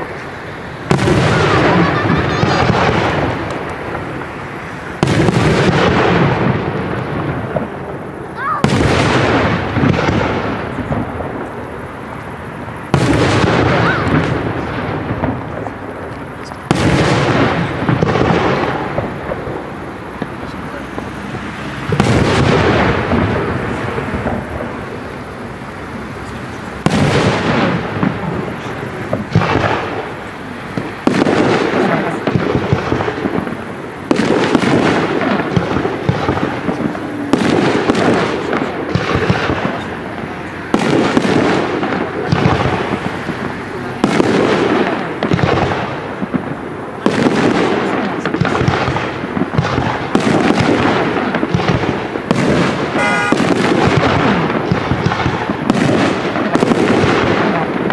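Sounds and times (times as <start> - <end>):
fireworks shells bursting: 0.0 - 57.9.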